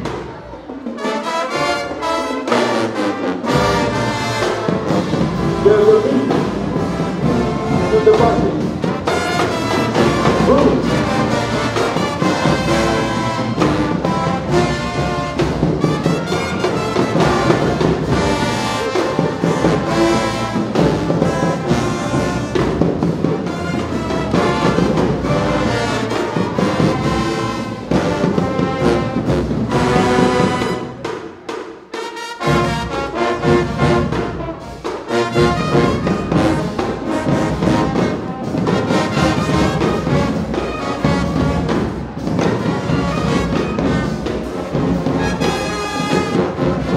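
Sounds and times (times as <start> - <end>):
drums: 0.0 - 46.9
marching band playing brass tune: 0.0 - 46.9.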